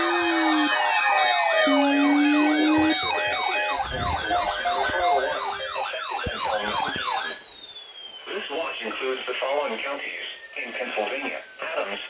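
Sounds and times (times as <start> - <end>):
falling siren sweeps: 0.0 - 12.0
warbling electronic siren: 0.0 - 12.0.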